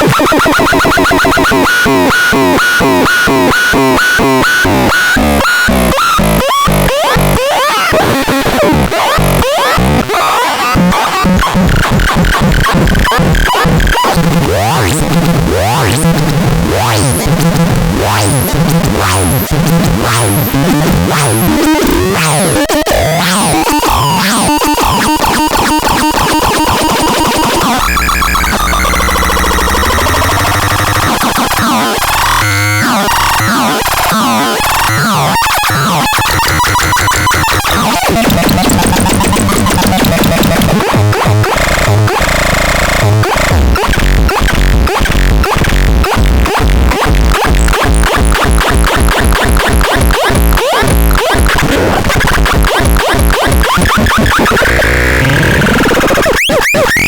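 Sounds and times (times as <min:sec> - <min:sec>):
glitchy electronic synthesizer music: 0:00.0 - 0:57.0.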